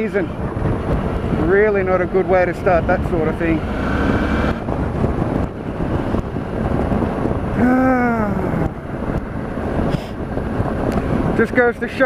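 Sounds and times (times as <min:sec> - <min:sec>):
motorcycle engine running: 0:00.0 - 0:11.8
wind rushing over microphone: 0:00.0 - 0:12.0.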